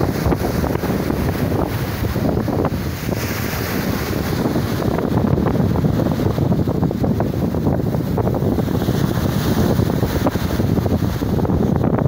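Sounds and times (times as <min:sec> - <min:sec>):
sea waves breaking on beach: 0:00.0 - 0:12.0
wind buffeting microphone: 0:00.0 - 0:12.0.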